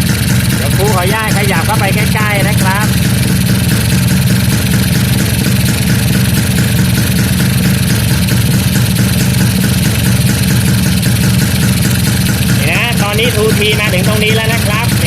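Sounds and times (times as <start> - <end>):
two-stroke engine idling: 0.0 - 15.0.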